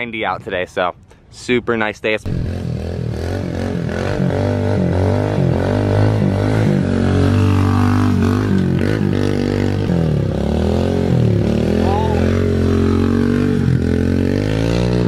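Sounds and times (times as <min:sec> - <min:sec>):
low engine drone: 0:02.2 - 0:15.0
small motorbike engine revving: 0:02.3 - 0:15.0.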